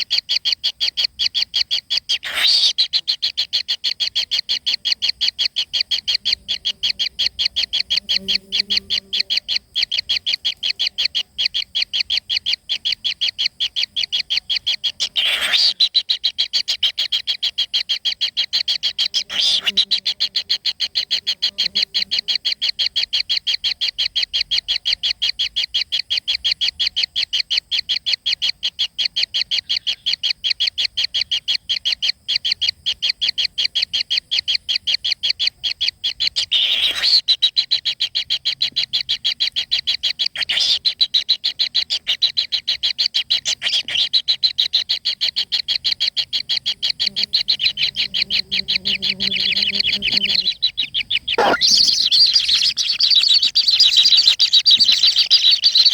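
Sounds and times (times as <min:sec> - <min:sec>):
animal high chirping pulses: 0:00.0 - 0:24.7, 0:33.8 - 0:55.9.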